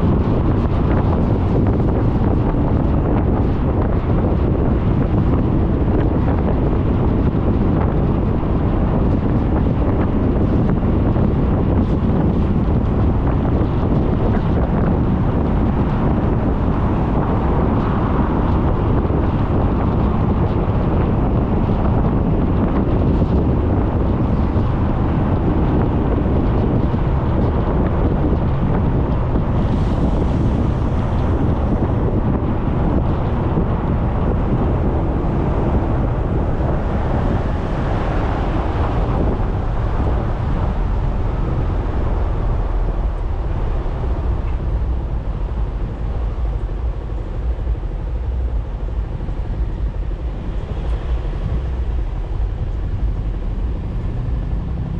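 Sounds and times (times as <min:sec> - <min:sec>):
road noise: 0:00.0 - 0:54.9
wind buffeting microphone: 0:00.0 - 0:54.9.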